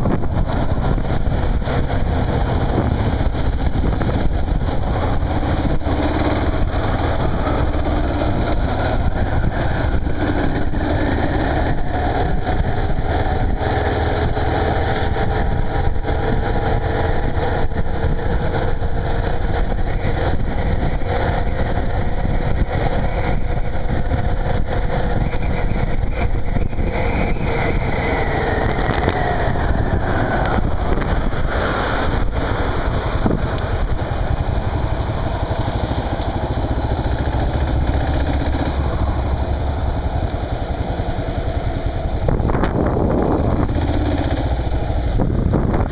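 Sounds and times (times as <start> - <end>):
motorcycle engine accelerating: 0.0 - 45.9
wind on microphone: 0.0 - 45.9.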